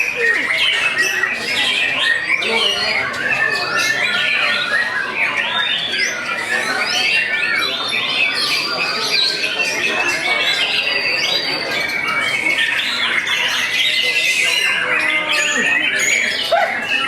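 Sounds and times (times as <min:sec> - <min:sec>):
birds singing in competition: 0:00.0 - 0:17.0.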